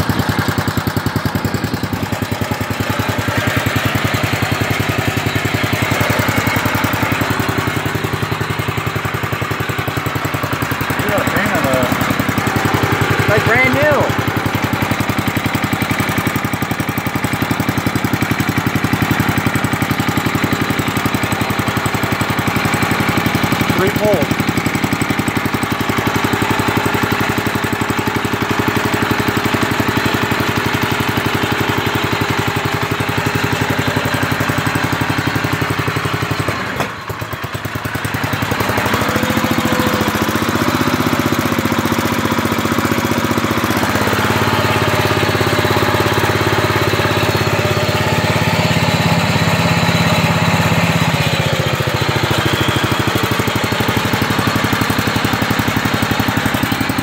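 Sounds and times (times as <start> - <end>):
small tractor engine running: 0.0 - 57.0.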